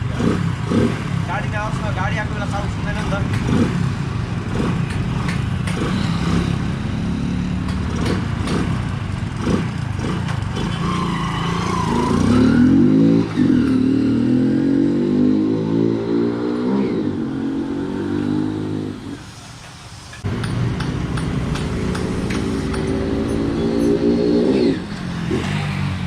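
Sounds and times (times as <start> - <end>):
motorcycle engine revving: 0.0 - 19.2, 20.3 - 26.0.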